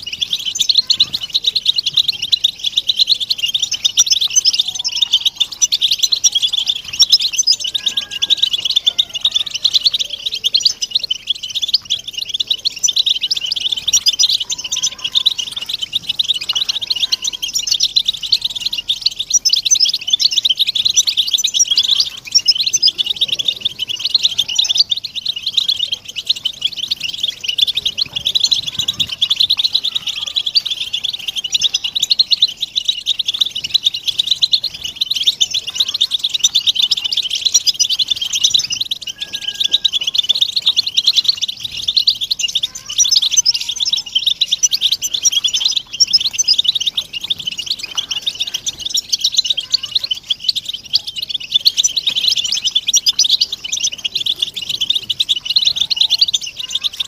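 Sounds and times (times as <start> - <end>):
flock of finches twittering: 0.0 - 57.0.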